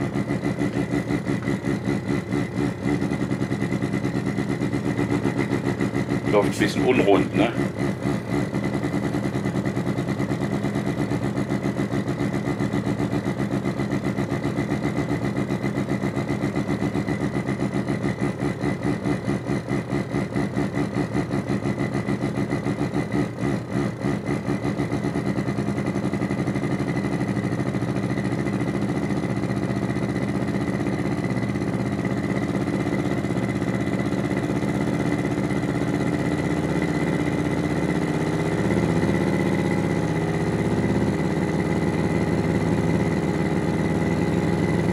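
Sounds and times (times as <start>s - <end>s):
low synthetic engine pulsing: 0.0s - 44.9s.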